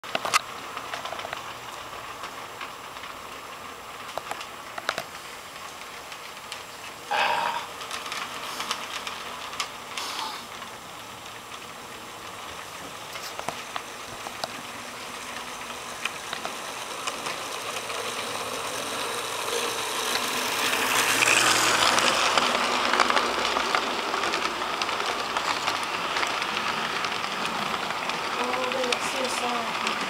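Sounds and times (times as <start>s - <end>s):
model train rolling on track: 0.0s - 30.0s
wheels clicking over rails: 0.0s - 30.0s.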